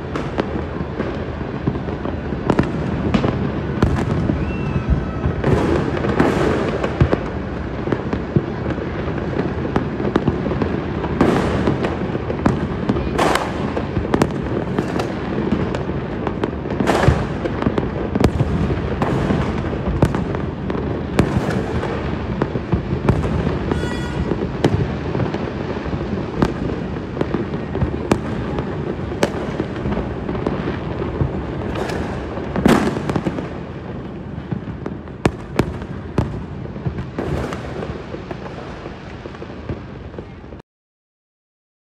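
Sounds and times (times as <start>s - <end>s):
fireworks bangs and pops: 0.0s - 40.6s
fireworks crackling: 0.0s - 40.6s.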